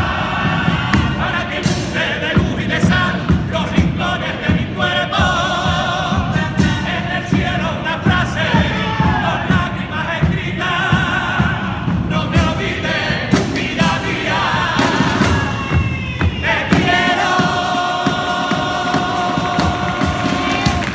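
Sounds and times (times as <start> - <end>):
low drum beats: 0.0 - 20.9
male choir singing: 0.0 - 20.9.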